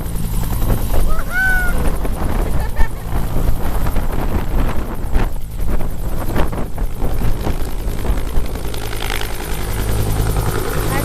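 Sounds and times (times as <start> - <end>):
helicopter rotor beating: 0.0 - 11.0
turbine engine whine: 0.0 - 11.0.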